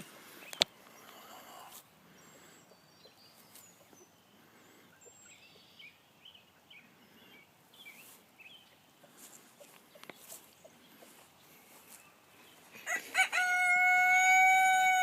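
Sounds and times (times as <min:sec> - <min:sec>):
low outdoor hiss: 0:00.0 - 0:13.4.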